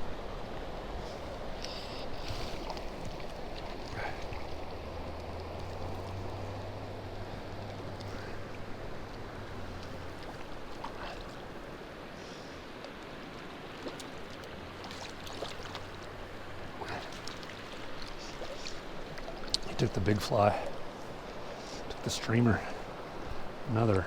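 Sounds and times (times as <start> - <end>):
mountain creek running: 0.0 - 24.0
faint ticks and splashes: 0.4 - 24.0.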